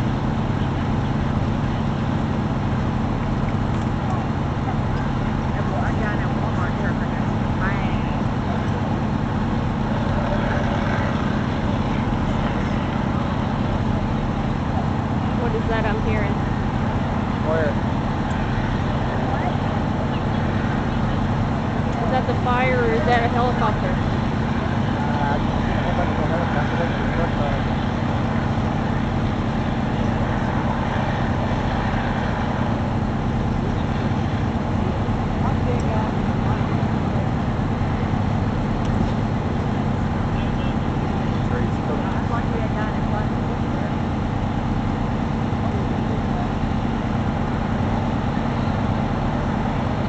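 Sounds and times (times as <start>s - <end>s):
broad rushing noise: 0.0s - 50.0s
diesel engines droning: 0.0s - 50.0s.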